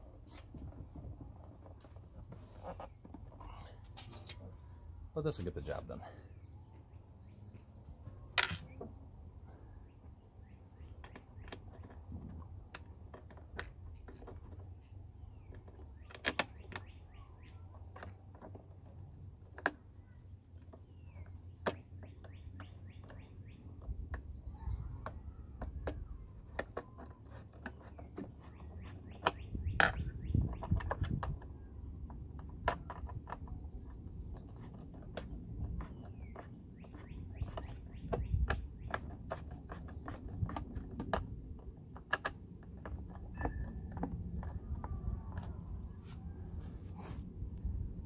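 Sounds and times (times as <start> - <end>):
birds chirping: 0.0 - 12.4, 13.9 - 18.2, 19.8 - 48.0.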